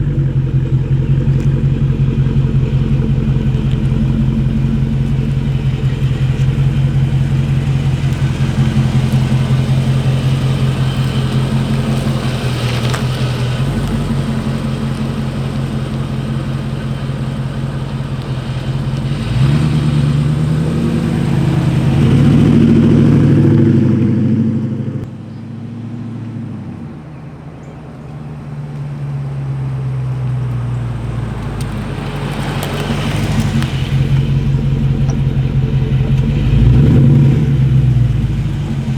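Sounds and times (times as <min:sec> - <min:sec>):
car engine exhaust pulsing: 0:00.0 - 0:38.9.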